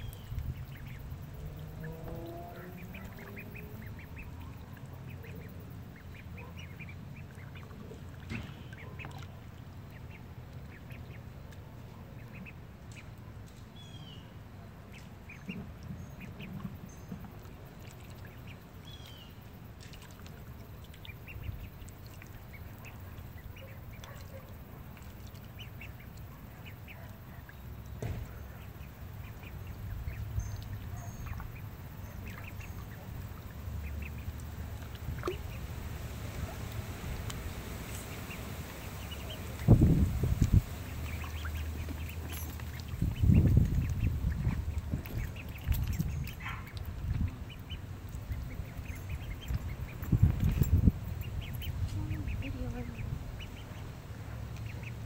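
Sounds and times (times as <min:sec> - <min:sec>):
ducks quacking: 0:00.0 - 0:11.3, 0:12.0 - 0:12.6, 0:21.0 - 0:55.0
steady low rumble: 0:00.0 - 0:13.4, 0:14.8 - 0:55.0.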